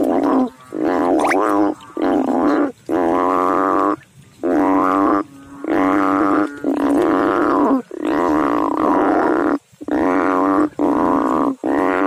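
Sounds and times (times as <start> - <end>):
frogs calling: 0.0 - 12.0.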